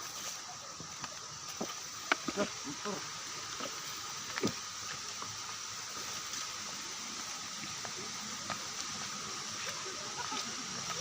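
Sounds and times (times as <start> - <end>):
water rushing from waterfall: 0.0 - 11.0.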